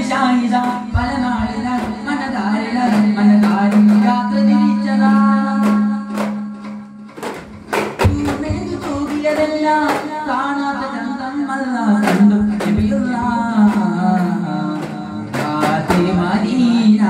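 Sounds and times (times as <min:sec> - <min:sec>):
voices singing a melody: 0:00.0 - 0:07.2, 0:08.0 - 0:17.0
frame drum strikes: 0:00.0 - 0:10.5, 0:12.0 - 0:16.8.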